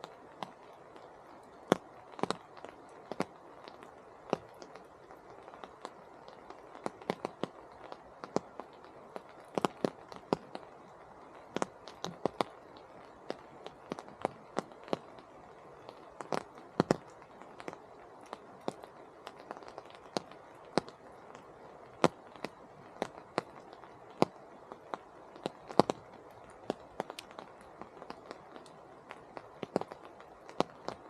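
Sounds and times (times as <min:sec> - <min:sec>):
raindrops dripping from trees: 0:00.0 - 0:31.0
soft rain hiss: 0:00.0 - 0:31.0.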